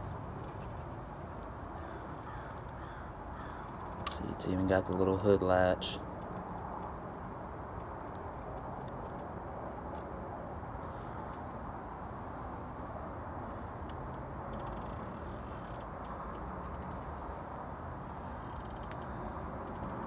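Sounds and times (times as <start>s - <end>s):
low outdoor rush: 0.0s - 20.0s.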